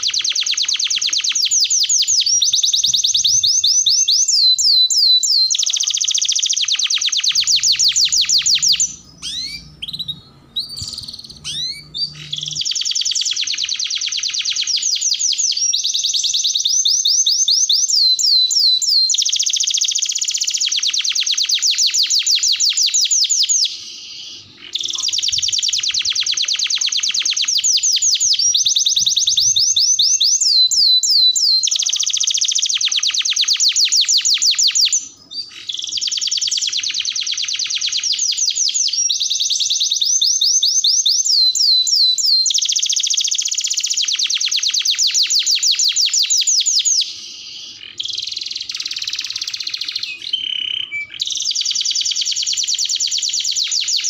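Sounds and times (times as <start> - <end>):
canary chirps: 0.0 - 54.0
canary singing trills: 0.0 - 54.0.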